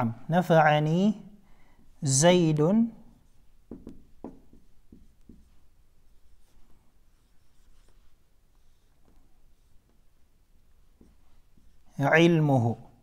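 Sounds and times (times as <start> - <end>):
marker writing on whiteboard: 1.6 - 12.8.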